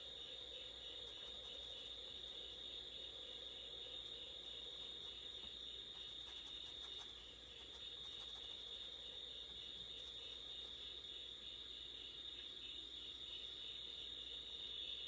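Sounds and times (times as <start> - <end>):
faint steady hum: 0.0 - 15.0
insects chirping: 0.0 - 15.0.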